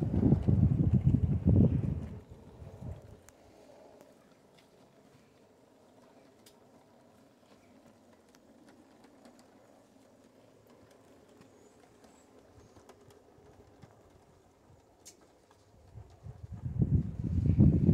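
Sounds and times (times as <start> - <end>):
model locomotive humming: 0.0 - 17.9.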